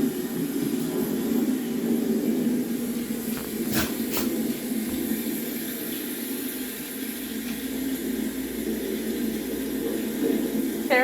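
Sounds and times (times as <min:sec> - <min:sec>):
rain-like hiss: 0:00.0 - 0:11.0.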